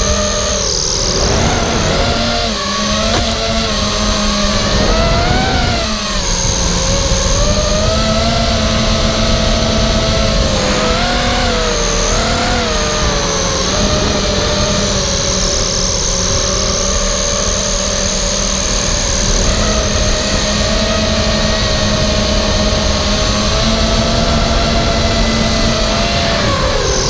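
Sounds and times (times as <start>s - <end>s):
quadcopter motors and propellers: 0.0s - 27.0s
wind rumble on microphone: 0.0s - 27.0s.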